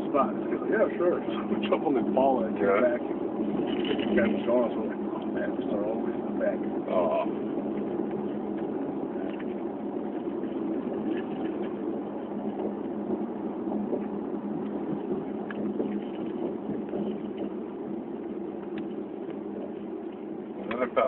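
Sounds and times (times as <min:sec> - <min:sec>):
car engine and tyre drone: 0:00.0 - 0:21.0.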